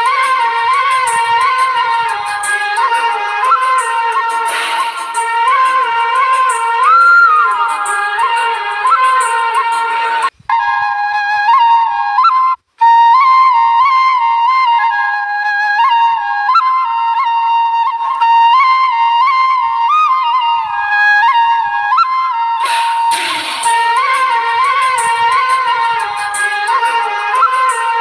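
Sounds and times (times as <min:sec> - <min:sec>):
solo flute melody: 0:00.0 - 0:28.0.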